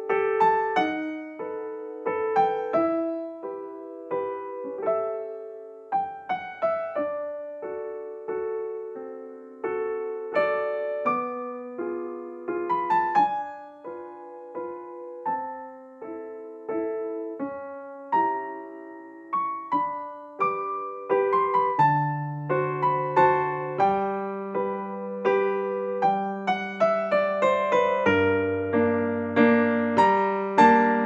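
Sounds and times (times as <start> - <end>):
gentle piano piece: 0.0 - 31.0.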